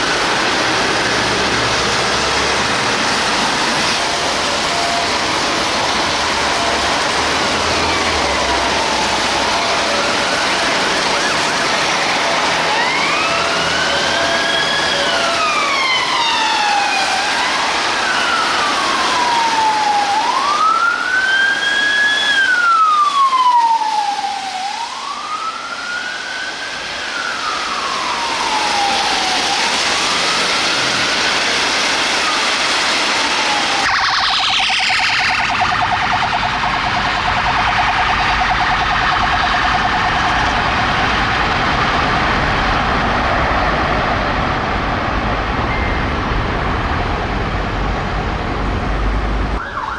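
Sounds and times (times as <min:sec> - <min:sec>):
police sirens wailing: 0:00.0 - 0:49.9
road traffic noise: 0:00.0 - 0:49.9.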